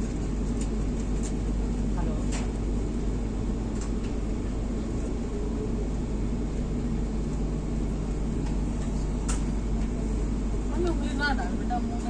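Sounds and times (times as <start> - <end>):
train rumble inside coach: 0.0 - 12.0.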